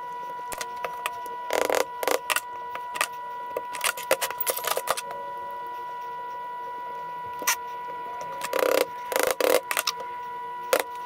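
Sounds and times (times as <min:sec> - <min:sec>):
steady high hum: 0:00.0 - 0:11.0.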